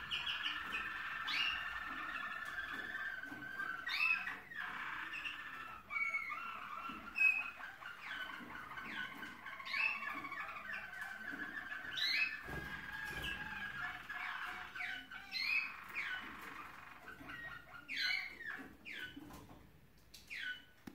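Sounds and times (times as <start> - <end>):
canaries singing trilled song: 0.0 - 20.9.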